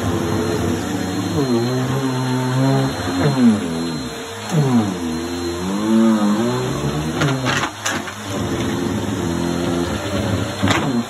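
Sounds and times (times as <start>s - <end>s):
vacuum cleaner running on a rug: 0.0s - 11.0s.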